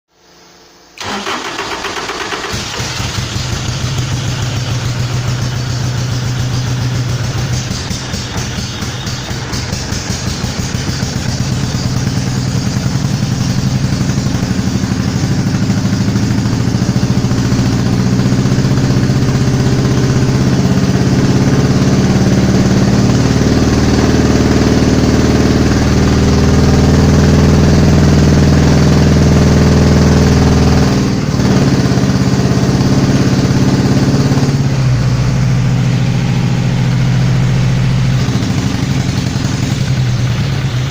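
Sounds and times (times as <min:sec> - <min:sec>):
car engine idling: 0:01.0 - 0:40.9.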